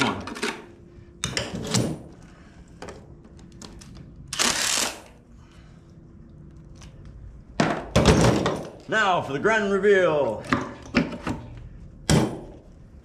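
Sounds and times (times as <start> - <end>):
faint hum: 0.1 - 13.0.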